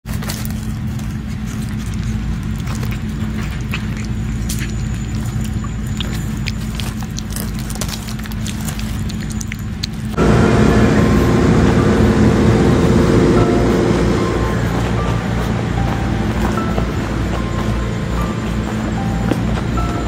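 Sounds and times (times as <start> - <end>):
cat chewing and licking: 0.0 - 10.2, 13.4 - 20.0
noisy background: 0.0 - 20.0
steady low hum: 0.1 - 20.0.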